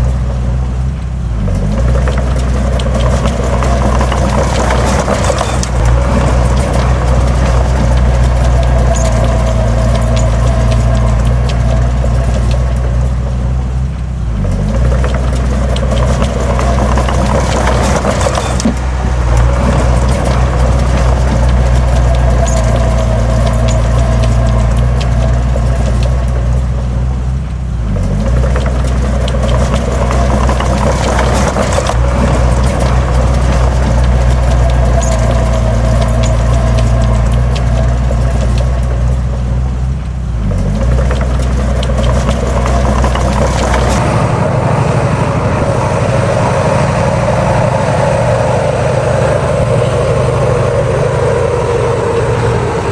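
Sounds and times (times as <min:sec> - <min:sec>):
heavy diesel engine under load: 0:00.0 - 0:52.9.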